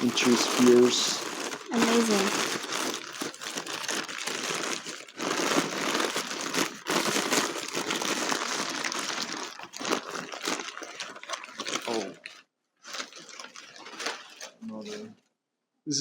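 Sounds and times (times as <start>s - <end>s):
packing paper crinkling: 0.0s - 15.0s.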